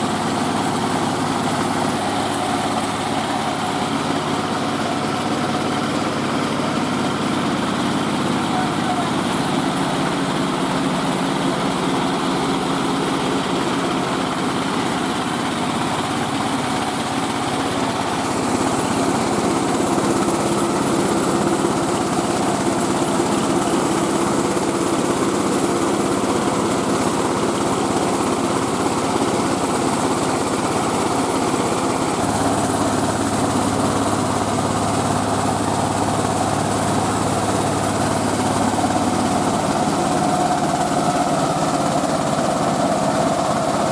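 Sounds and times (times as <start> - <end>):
machine engine running: 0.0 - 43.9.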